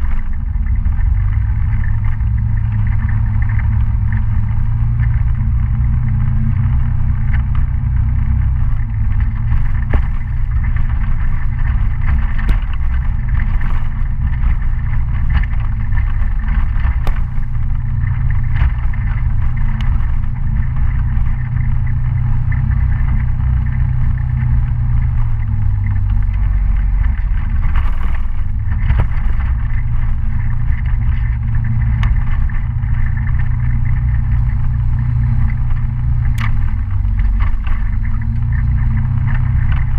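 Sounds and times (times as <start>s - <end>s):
knocks and rattles from dirt road: 0.0s - 39.9s
scooter engine running: 0.0s - 39.9s.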